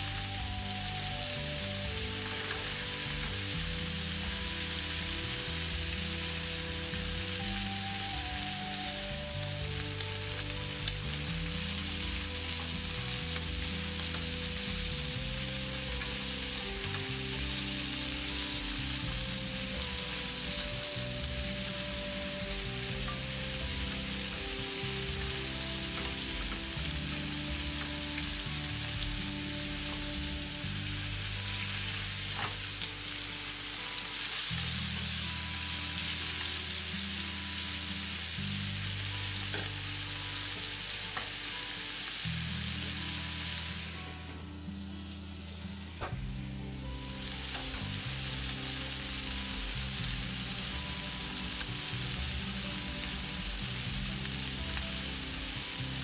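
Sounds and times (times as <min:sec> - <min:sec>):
food sizzling in a pan: 0:00.0 - 0:56.0
soft background music: 0:00.0 - 0:56.0.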